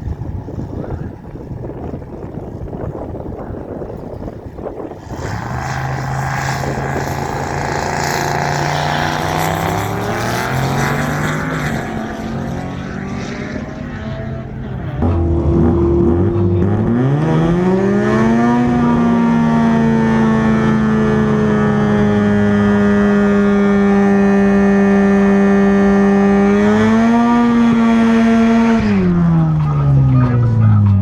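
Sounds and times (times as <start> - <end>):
drag-race car engines: 0.0 - 31.0
loud engine revving up close: 4.7 - 31.0.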